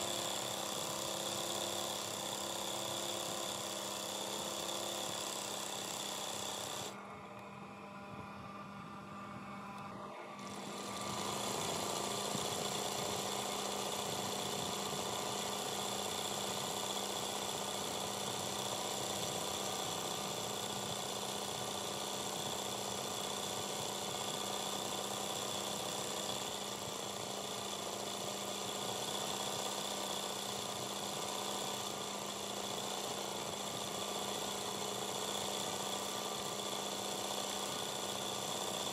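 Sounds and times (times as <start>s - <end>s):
sewing machine running: 0.0s - 7.0s, 10.4s - 38.9s.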